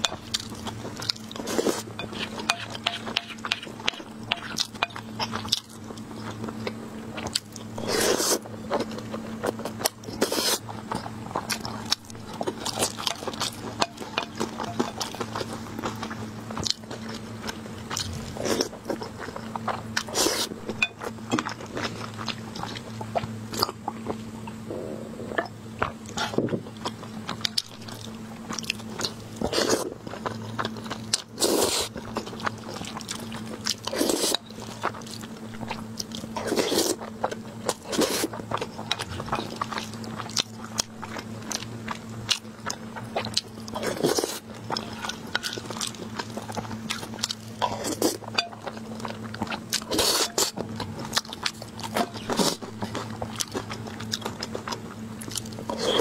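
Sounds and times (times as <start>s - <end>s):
close chewing and biting: 0.0s - 56.0s
steady low hum: 0.0s - 56.0s.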